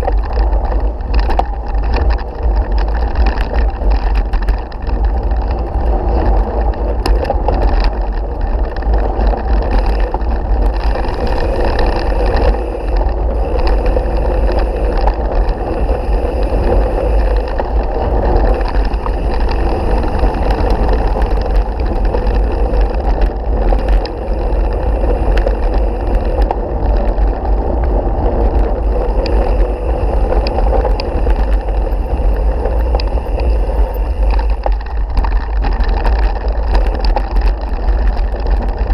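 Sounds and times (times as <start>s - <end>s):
tyres on gravel: 0.0s - 38.9s
wind rumble on microphone: 0.0s - 38.9s.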